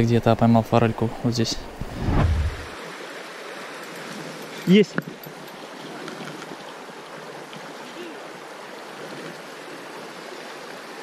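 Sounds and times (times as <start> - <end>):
river water rushing: 2.0 - 11.0.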